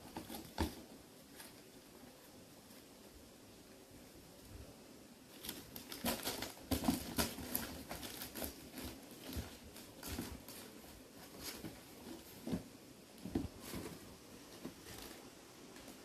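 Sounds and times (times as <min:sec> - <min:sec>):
kittens tapping and scratching: 0:00.0 - 0:02.3, 0:05.3 - 0:16.0.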